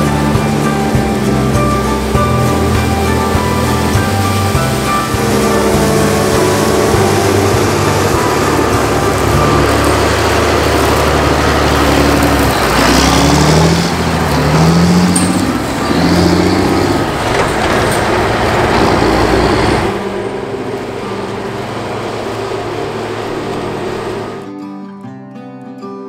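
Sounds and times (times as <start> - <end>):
combine harvester droning: 0.0 - 24.5
tractor engine accelerating: 0.0 - 24.5.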